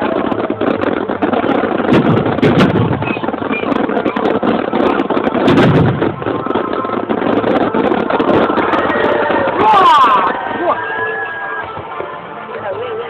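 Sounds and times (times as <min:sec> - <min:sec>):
fireworks booming: 0:00.0 - 0:12.7
fireworks cracking: 0:00.0 - 0:13.0.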